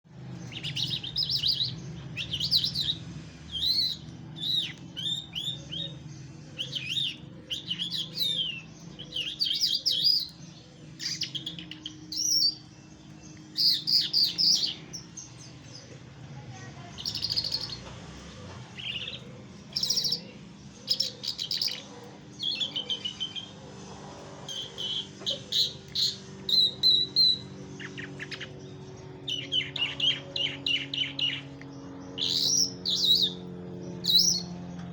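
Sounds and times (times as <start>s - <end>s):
songbird chirping and trilling: 0.1s - 34.9s.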